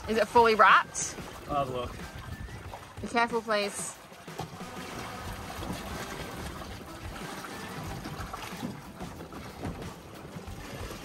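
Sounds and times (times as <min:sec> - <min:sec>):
sea water splashing along boat: 0:00.0 - 0:11.0.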